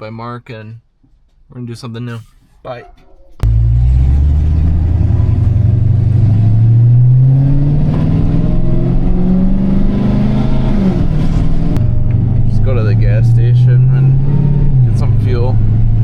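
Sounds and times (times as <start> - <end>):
car engine accelerating: 2.9 - 16.0.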